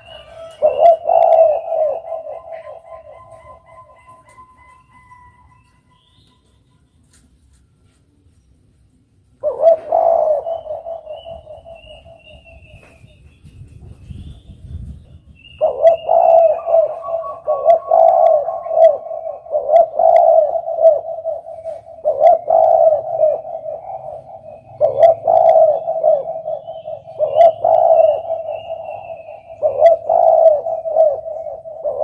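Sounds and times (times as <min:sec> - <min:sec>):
dove cooing: 0:00.0 - 0:06.1, 0:09.4 - 0:13.1, 0:15.4 - 0:32.0.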